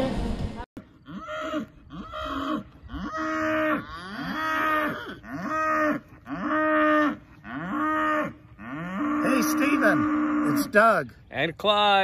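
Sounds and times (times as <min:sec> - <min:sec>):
cattle mooing: 0:01.0 - 0:11.0.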